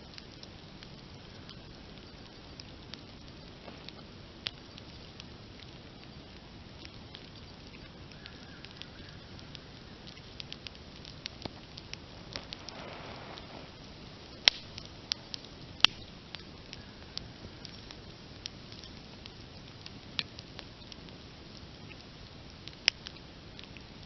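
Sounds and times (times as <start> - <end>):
campfire hissing and crackling: 0.0 - 24.0
fire popping loudly: 0.0 - 24.0.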